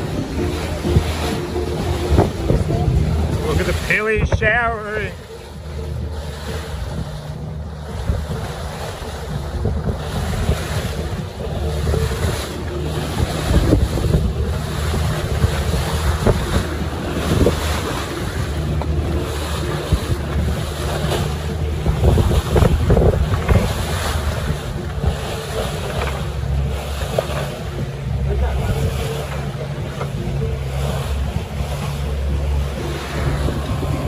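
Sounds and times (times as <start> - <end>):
boat engine hum: 0.0 - 34.0
water slapping against hull: 0.0 - 34.0
wind buffeting microphone: 0.0 - 34.0.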